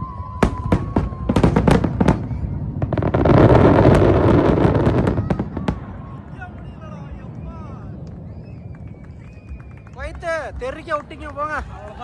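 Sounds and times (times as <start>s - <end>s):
fireworks cracks and bangs: 0.0s - 12.0s.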